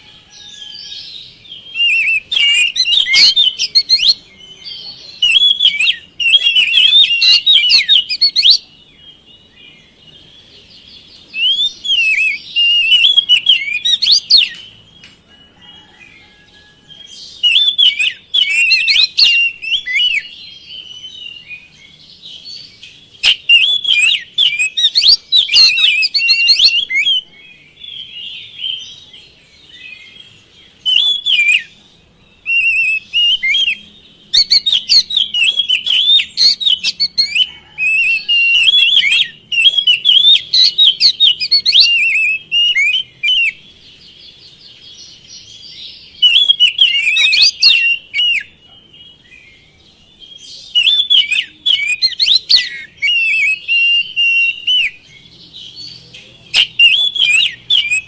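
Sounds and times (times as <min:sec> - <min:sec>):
bird singing whistled phrases: 0:00.0 - 0:14.7, 0:16.9 - 0:43.7, 0:45.6 - 0:58.0
bird twittering: 0:00.0 - 0:16.4, 0:17.2 - 0:58.0.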